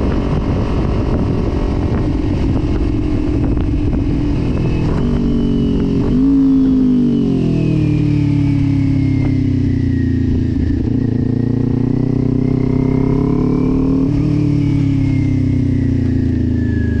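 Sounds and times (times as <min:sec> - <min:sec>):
motorcycle engine at low speed: 0:00.0 - 0:17.0.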